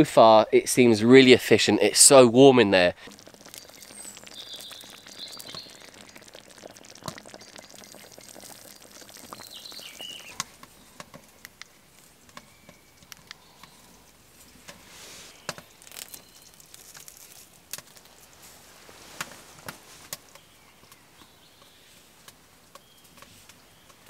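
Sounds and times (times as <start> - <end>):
stew simmering and sizzling: 2.5 - 24.0.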